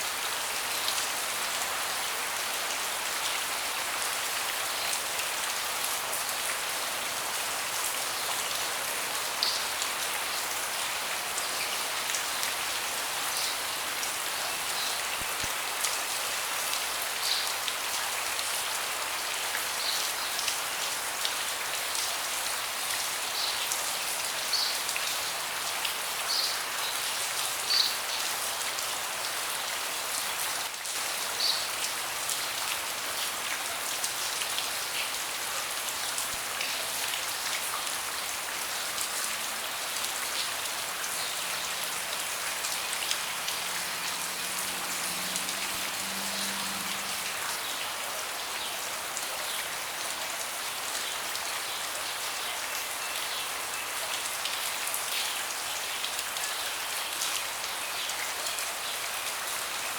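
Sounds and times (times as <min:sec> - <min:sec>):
rain falling on a deck: 0:00.0 - 0:59.9.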